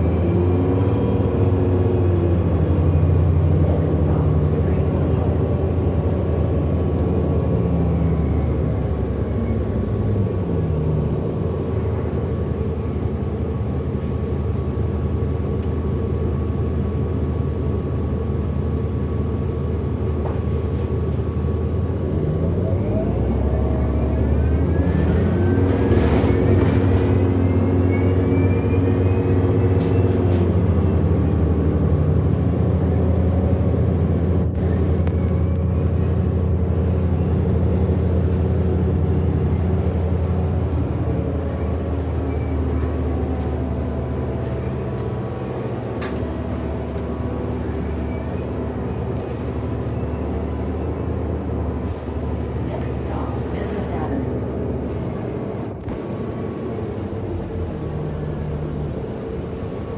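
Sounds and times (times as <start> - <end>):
electric bus drive drone: 0.0 - 59.9.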